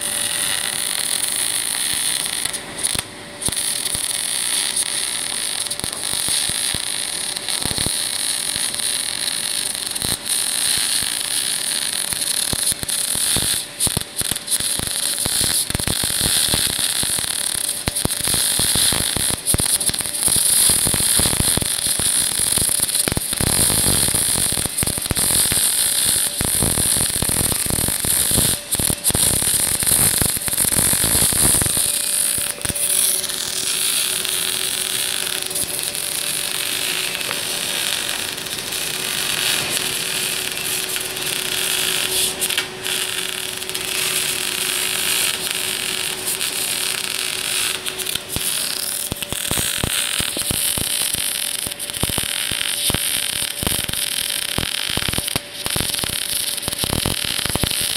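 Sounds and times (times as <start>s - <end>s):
welding arc crackling and hissing: 0.0s - 57.9s.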